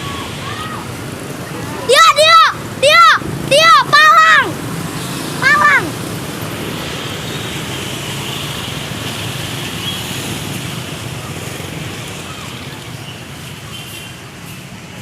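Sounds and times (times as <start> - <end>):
passing bus engine and tyres: 0.0 - 15.0.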